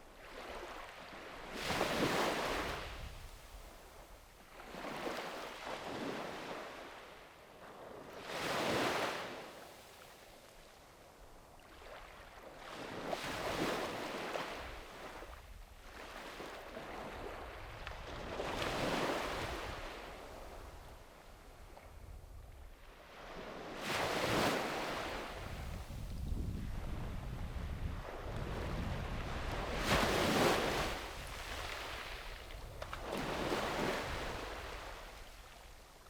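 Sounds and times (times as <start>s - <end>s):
sea waves breaking on shore: 0.0s - 10.2s, 11.6s - 22.0s, 22.7s - 36.0s.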